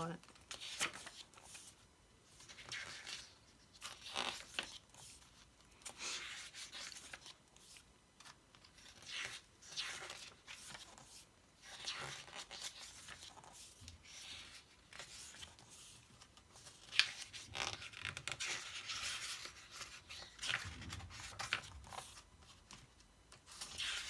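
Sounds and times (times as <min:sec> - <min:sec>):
album pages turning and rustling: 0:00.2 - 0:24.0.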